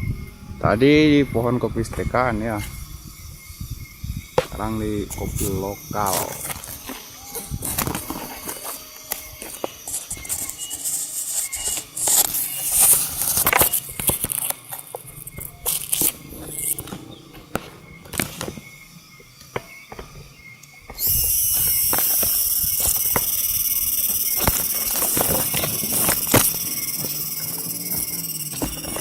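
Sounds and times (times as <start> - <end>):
leaves and twigs rustling: 0.5 - 29.0
twigs clicking: 4.4 - 29.0.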